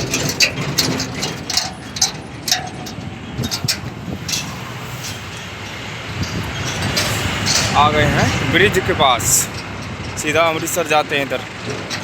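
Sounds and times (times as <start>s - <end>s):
light clicks and rattles: 0.0s - 5.4s, 6.2s - 12.0s.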